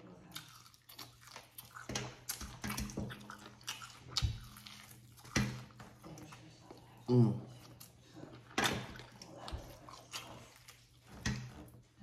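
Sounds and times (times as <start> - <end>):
person chewing wet mouth sounds: 0.1 - 11.0.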